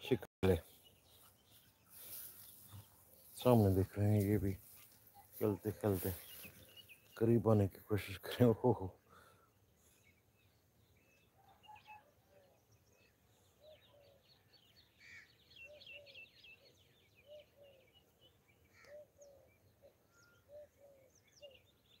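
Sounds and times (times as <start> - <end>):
birds twittering chirps: 0.0 - 22.0.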